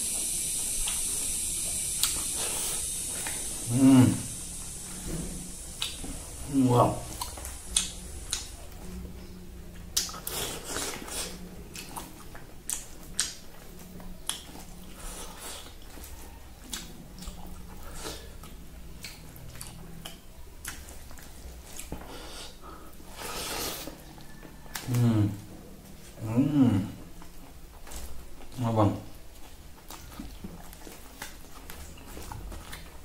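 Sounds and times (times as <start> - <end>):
man chewing with wet mouth smacks: 0.0 - 3.8, 5.5 - 33.0.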